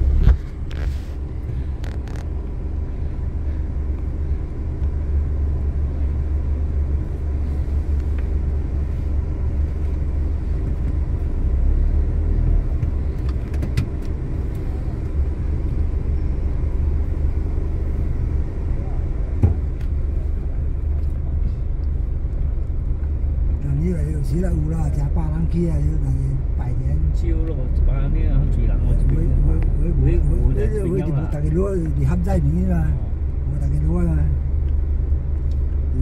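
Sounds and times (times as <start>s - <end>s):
truck engine and road rumble: 0.0s - 36.0s.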